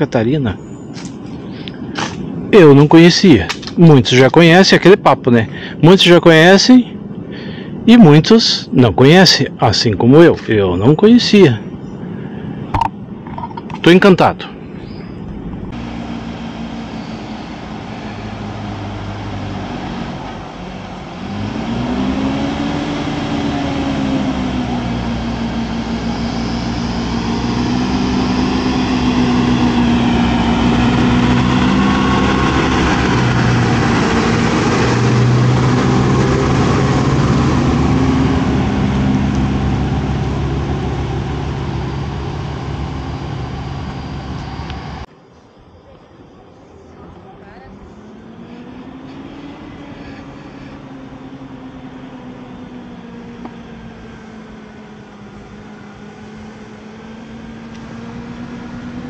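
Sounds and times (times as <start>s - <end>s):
bus diesel engine passing: 0.0s - 13.2s, 14.0s - 59.0s.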